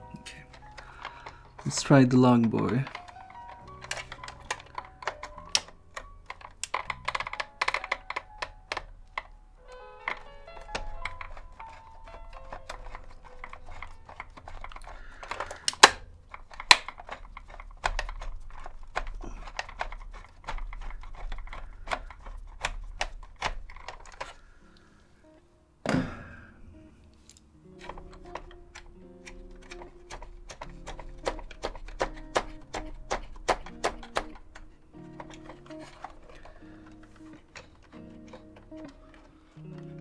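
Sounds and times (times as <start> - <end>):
music with clicking beat: 0.0 - 25.0, 25.8 - 40.0
sharp clicks: 0.0 - 40.0.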